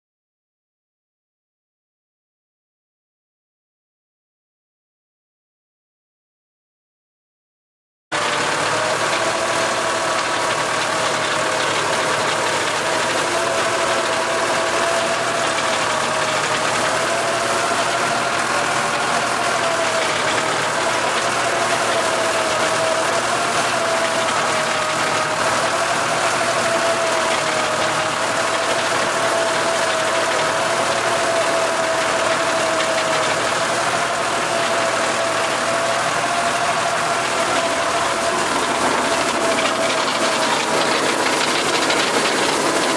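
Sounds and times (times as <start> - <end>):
tractor diesel engine running: 8.1 - 42.9.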